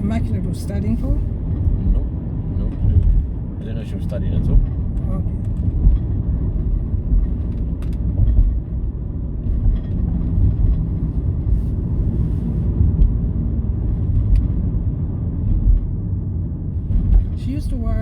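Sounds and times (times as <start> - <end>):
road and engine rumble inside car: 0.0 - 18.0.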